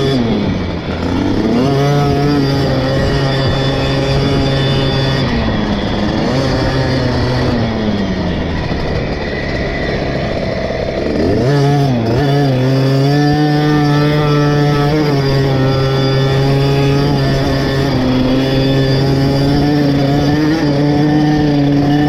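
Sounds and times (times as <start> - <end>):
motocross engine revving: 0.0 - 22.0.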